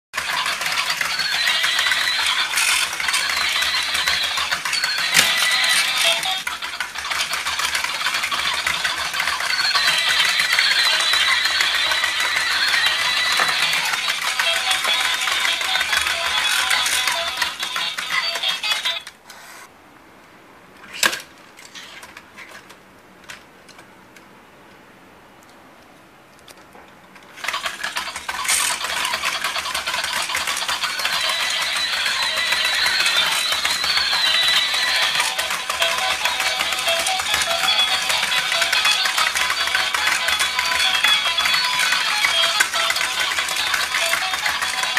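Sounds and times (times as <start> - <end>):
toy motors and legs clattering: 0.2 - 19.7, 20.8 - 24.0, 26.4 - 44.9.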